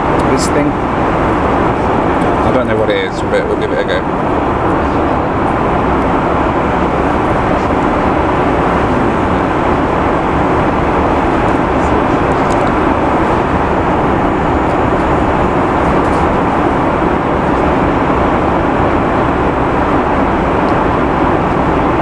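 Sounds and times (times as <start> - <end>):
airplane cabin noise: 0.0 - 22.0.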